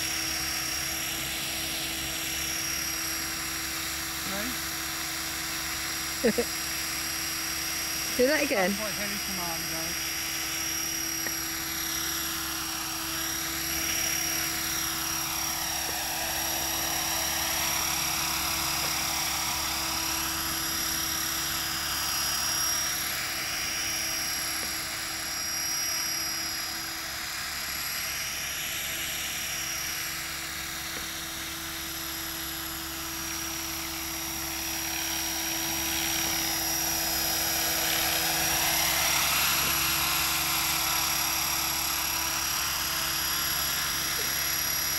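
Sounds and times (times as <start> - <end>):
electric motor whine: 0.0 - 44.9
rotor blades whirring: 0.0 - 44.9.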